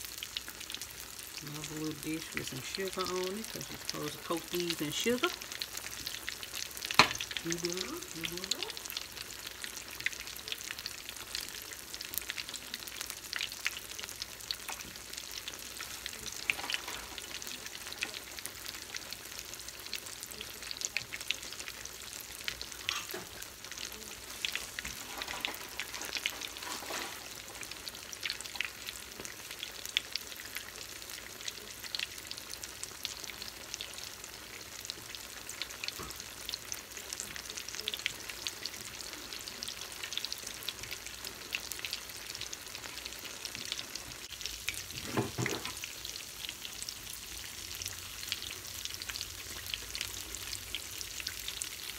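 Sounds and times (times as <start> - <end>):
deep-frying oil sizzling and popping: 0.0 - 51.9.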